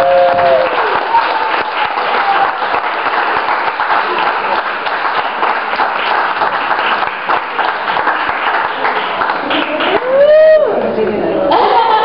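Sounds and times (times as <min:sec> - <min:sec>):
small audience clapping: 0:00.0 - 0:10.7.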